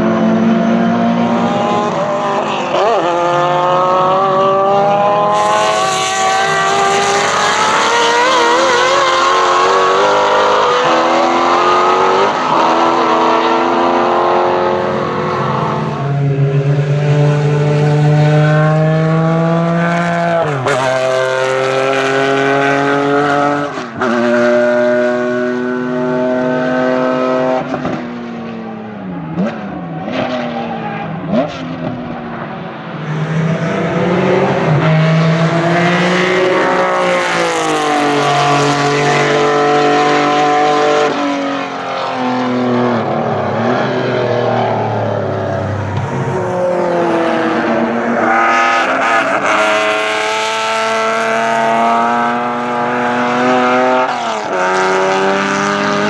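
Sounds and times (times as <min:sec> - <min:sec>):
racing car engine accelerating: 0:00.0 - 0:56.0.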